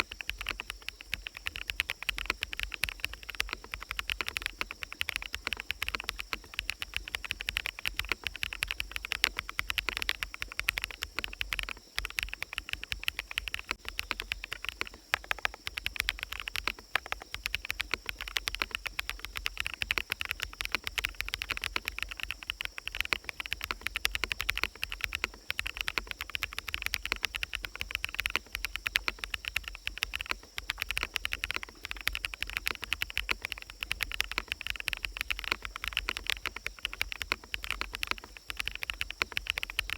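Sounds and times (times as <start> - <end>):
forest ambience: 0.0 - 39.9
typing on mechanical keyboard: 0.0 - 39.9.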